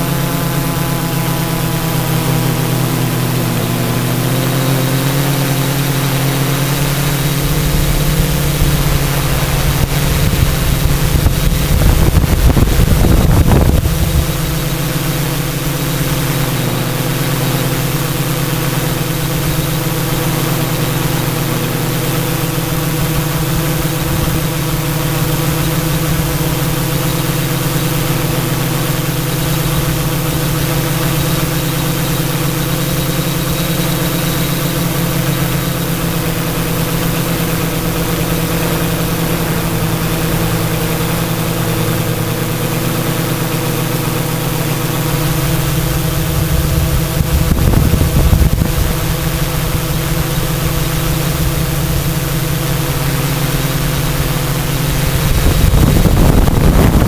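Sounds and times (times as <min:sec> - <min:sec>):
drone motors and propellers humming: 0:00.0 - 0:57.0.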